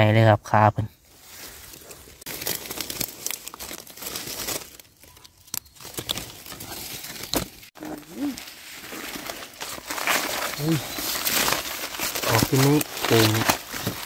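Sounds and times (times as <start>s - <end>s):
dry leaves crackling and rustling: 1.2s - 14.0s.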